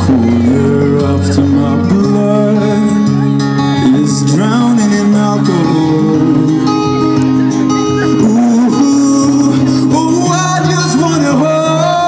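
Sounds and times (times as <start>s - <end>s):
instrumental backing music: 0.0s - 12.0s
man singing into microphone: 0.0s - 12.0s.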